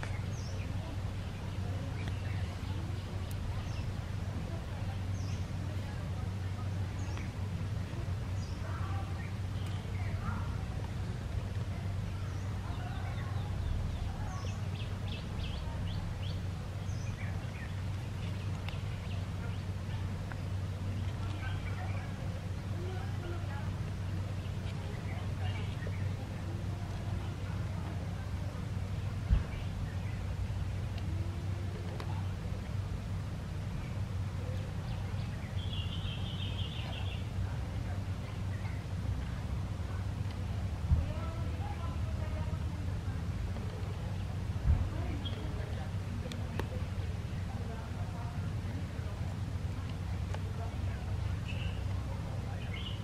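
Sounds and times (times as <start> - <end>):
birds chirping: 0.0 - 53.0
low outdoor rumble: 0.0 - 53.0
steady low hum: 0.0 - 53.0.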